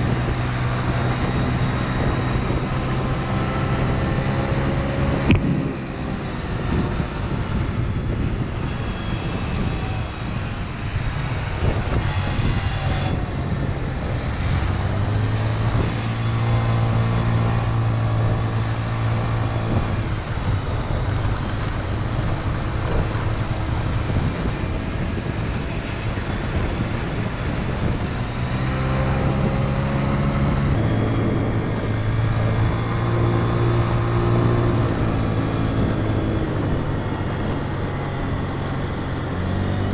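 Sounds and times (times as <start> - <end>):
scooter engine running: 0.0 - 39.9
wind noise on microphone: 0.0 - 39.9.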